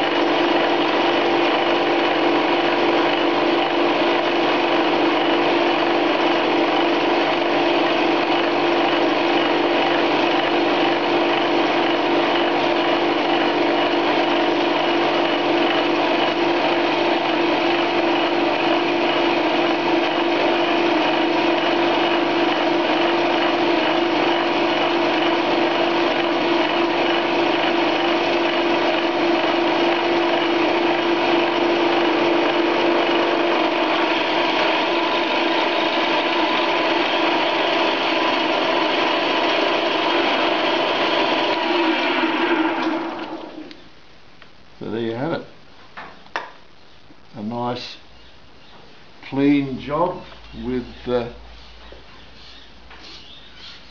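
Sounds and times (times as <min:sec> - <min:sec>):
lathe machining metal: 0:00.0 - 0:43.7.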